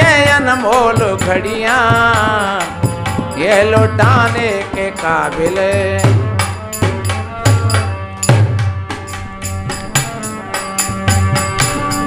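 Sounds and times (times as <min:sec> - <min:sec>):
drum steady beat: 0:00.0 - 0:12.0.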